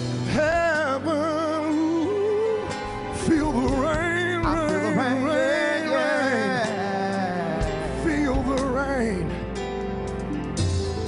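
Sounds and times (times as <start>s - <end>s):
instrumental backing: 0.0s - 11.0s
man singing with vibrato: 0.2s - 9.4s.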